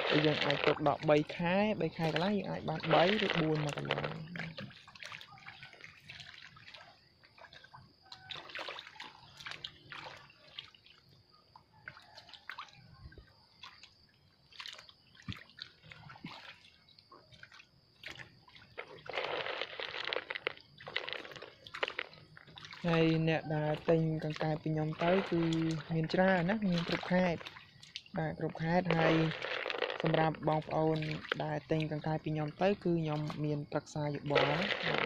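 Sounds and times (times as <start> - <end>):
frogs splashing in water: 0.0 - 35.0.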